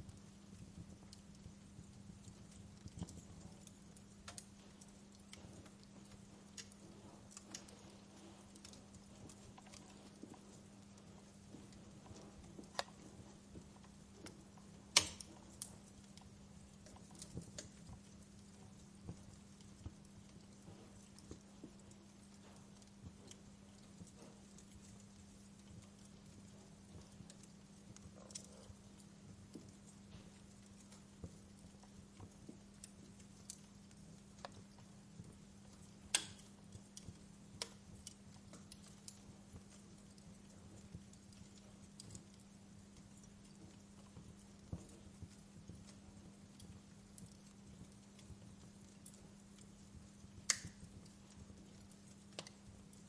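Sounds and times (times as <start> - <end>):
faint low hum: 0.0 - 53.0
wood fire crackling: 0.0 - 53.0
sharp pops of burning wood: 0.1 - 53.0.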